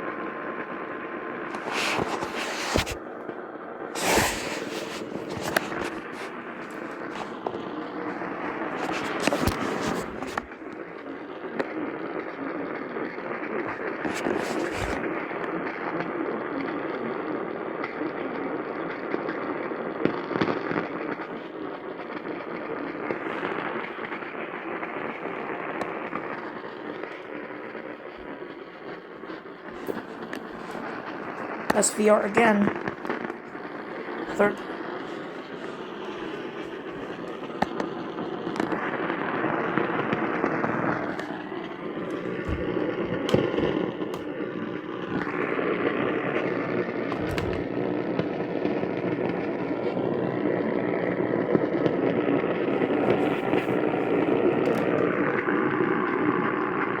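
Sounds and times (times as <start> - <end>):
radio static hiss: 0.0 - 57.0
sharp static pops: 0.0 - 57.0.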